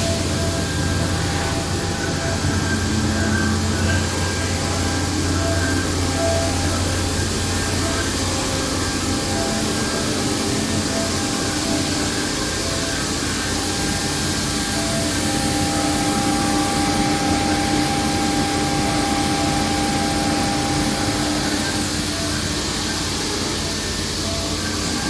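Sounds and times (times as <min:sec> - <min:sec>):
cnc machines whirring: 0:00.0 - 0:25.0
held machine tone: 0:00.0 - 0:25.0.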